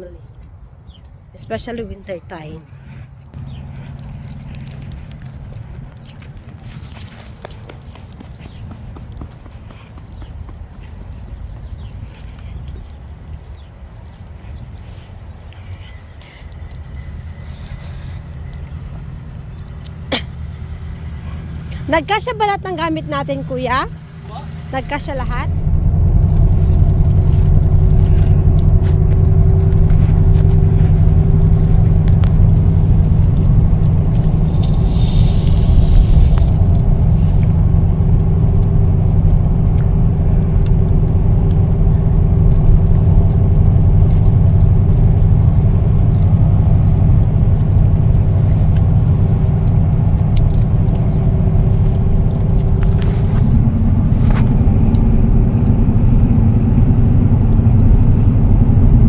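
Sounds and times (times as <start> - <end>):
road and engine rumble: 0.0 - 59.0
faint steady hum: 10.2 - 59.0.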